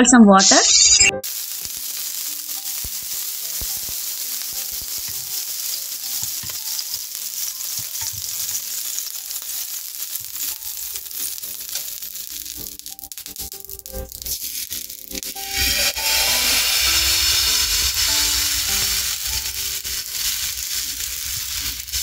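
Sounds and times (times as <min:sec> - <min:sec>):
water sizzling on hot pan: 0:00.4 - 0:22.0.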